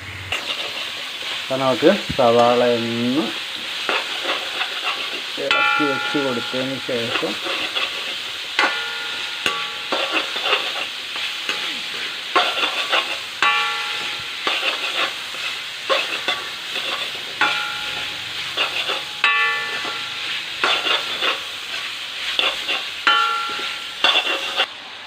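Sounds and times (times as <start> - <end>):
onions sizzling in oil: 0.0 - 24.8
spatula scraping a pan: 0.3 - 24.7.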